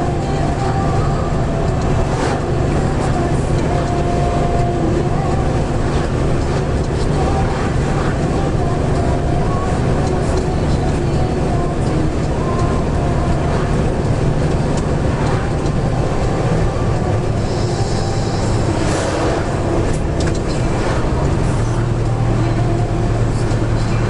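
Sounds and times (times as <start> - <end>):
lorry passing: 0.0 - 24.0
low engine hum: 0.0 - 24.0
tyre and road noise: 0.0 - 24.0.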